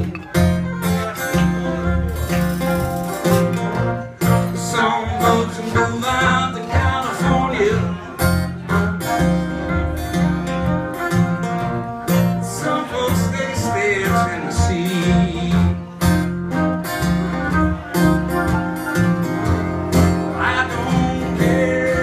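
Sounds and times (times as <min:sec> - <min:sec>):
acoustic guitar: 0:00.0 - 0:22.0
plucked upright bass: 0:00.0 - 0:22.0.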